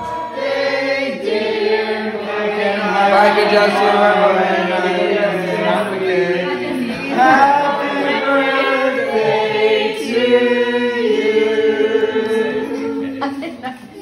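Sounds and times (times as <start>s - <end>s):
group of people singing: 0.0s - 14.0s.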